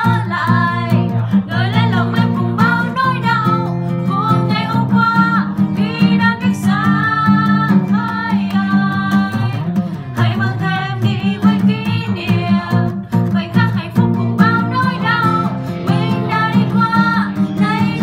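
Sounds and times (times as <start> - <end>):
acoustic guitar strumming chords: 0.0 - 18.0
person singing: 0.0 - 18.0.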